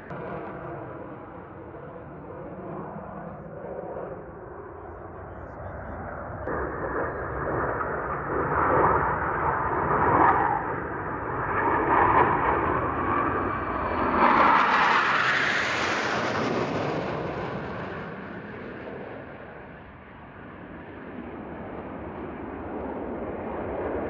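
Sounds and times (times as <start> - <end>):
jet engines flying past: 0.0 - 24.0.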